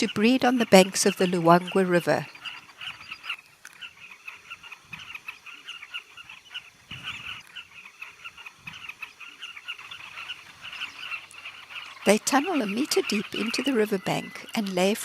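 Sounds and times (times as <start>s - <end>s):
birds chattering calls: 0.0s - 15.0s.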